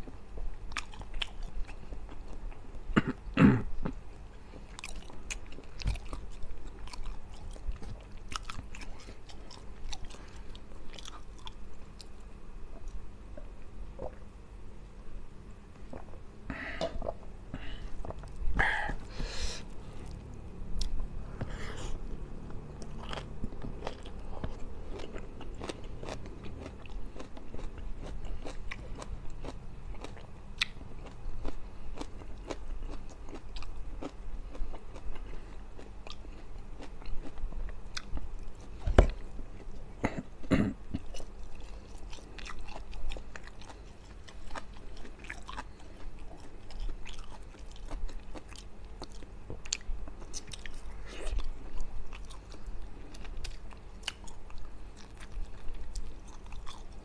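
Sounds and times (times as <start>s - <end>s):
man chewing food: 0.0s - 14.3s, 15.7s - 57.0s.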